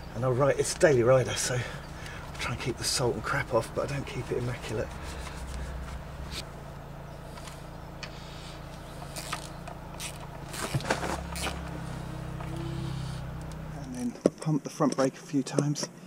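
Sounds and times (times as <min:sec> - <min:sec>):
engine running: 0:00.0 - 0:14.2.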